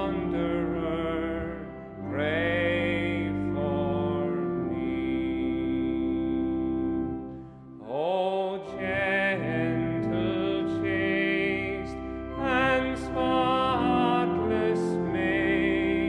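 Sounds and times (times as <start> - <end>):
organ chords: 0.0 - 16.0
person singing a hymn: 0.0 - 16.0.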